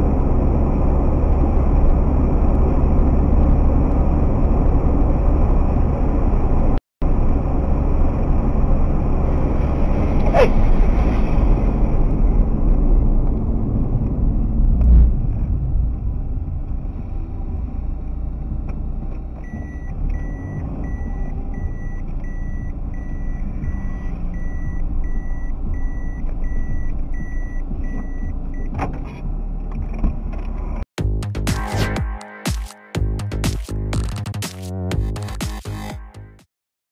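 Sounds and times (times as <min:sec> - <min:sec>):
wind: 0:00.0 - 0:30.9.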